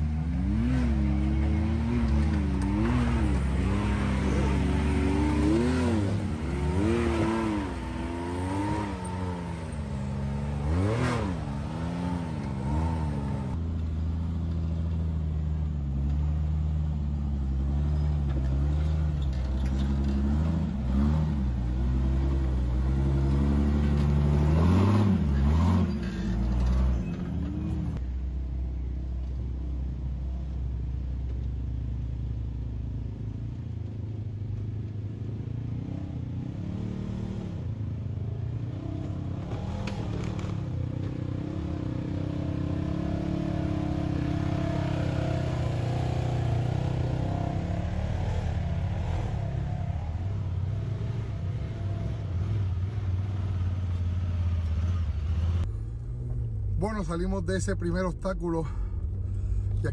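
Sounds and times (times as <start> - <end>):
off-road vehicle engine revving: 0.0 - 28.1, 35.0 - 59.9.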